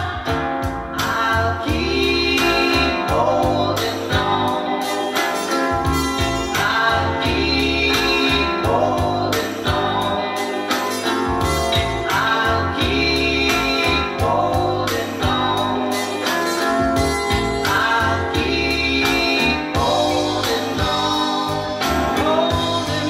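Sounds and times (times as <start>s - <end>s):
pop song from vinyl record: 0.0s - 23.0s.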